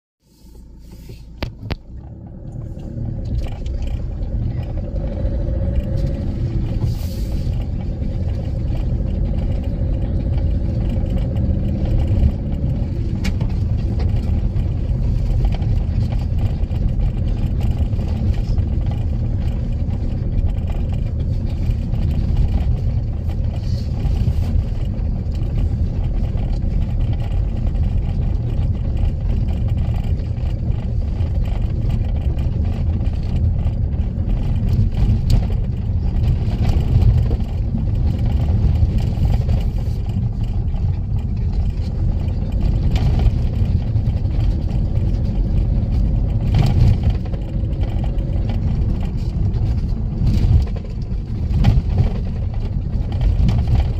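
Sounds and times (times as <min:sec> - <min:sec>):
car engine and tyres rumbling: 0:00.2 - 0:53.9.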